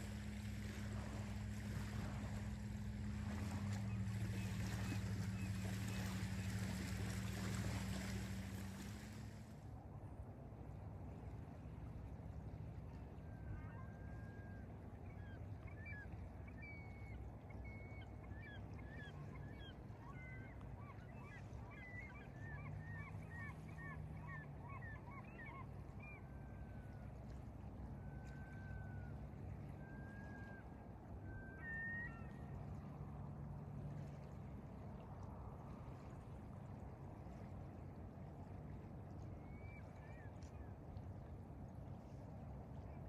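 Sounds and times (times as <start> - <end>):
lake water washing: 0.0 - 43.0.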